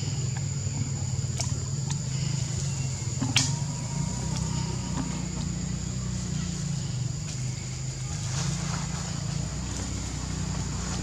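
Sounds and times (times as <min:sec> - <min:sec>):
low droning hum: 0:00.0 - 0:11.0.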